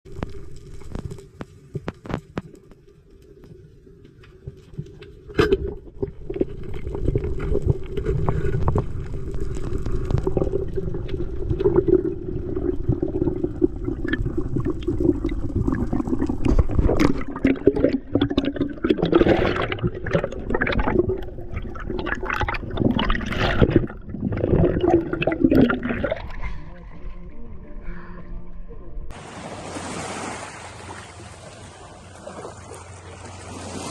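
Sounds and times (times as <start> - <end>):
water gurgling and sloshing: 0.1 - 28.4, 29.0 - 33.9.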